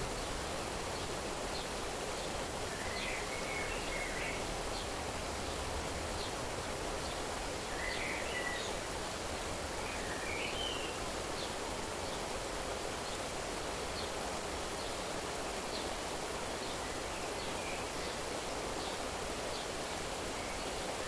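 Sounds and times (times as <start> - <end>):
small birds chirping: 0.0 - 8.9, 9.7 - 21.0
outdoor nature ambience hiss: 0.0 - 21.0.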